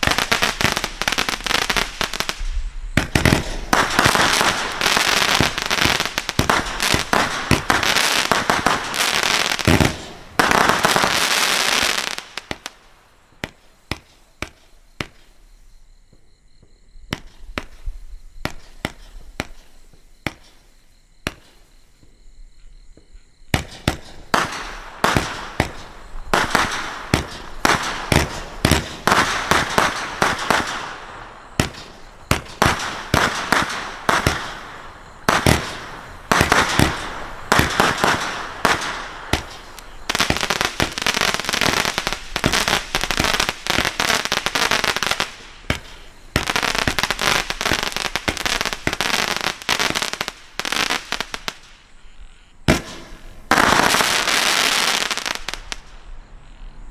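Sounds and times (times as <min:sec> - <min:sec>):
crackling firework tails: 0:00.0 - 0:22.4, 0:23.5 - 0:56.9.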